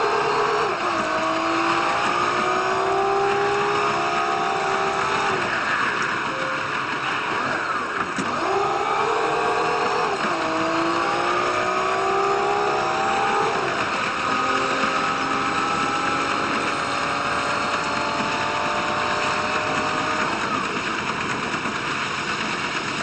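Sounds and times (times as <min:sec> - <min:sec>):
diesel train engine: 0:00.0 - 0:23.0
moving train noise: 0:00.0 - 0:23.0.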